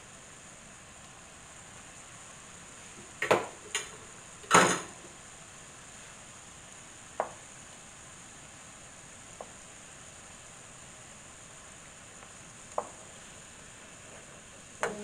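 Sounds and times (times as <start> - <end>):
dough sizzling in oil: 0.0 - 15.0.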